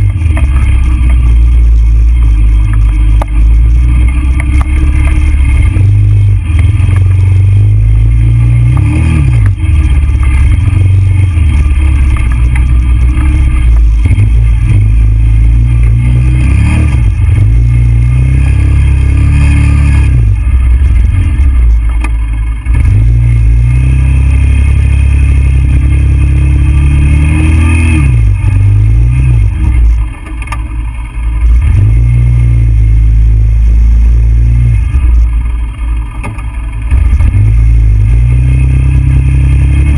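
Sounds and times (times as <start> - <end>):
quad engine revving: 0.0 - 30.6, 31.3 - 39.9.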